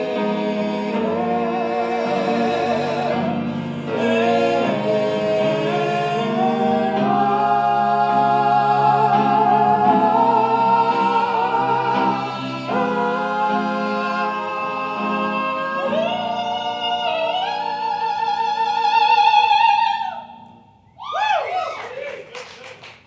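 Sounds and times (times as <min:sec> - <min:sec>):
person singing with vibrato: 0:00.0 - 0:20.5
piano accompaniment: 0:00.0 - 0:20.5.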